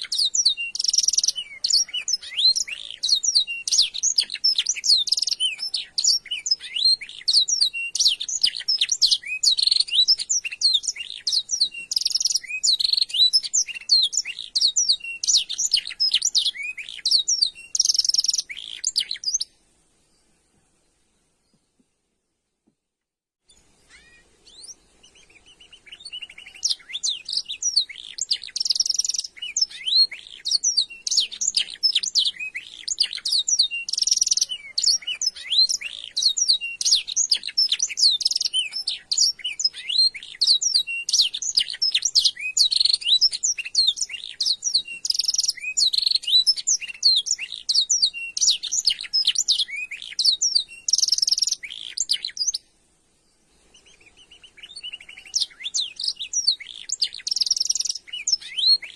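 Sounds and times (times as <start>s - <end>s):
canary singing trills: 0.0s - 19.6s, 23.5s - 52.7s, 53.5s - 58.9s.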